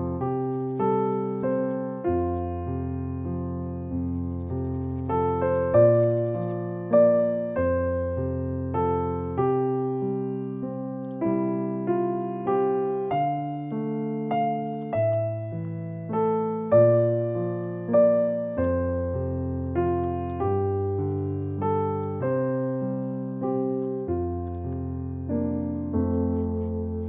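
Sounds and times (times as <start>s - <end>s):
gentle electric piano melody: 0.0s - 27.0s.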